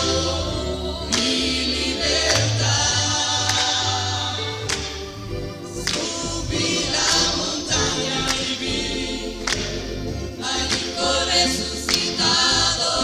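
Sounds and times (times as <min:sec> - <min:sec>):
band playing: 0:00.0 - 0:13.0
choir singing gospel song: 0:00.0 - 0:13.0.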